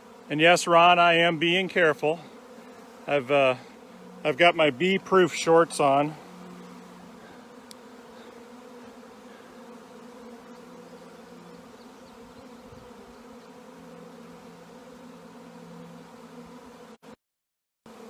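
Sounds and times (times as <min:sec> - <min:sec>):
bee swarm buzzing: 0:00.0 - 0:17.2.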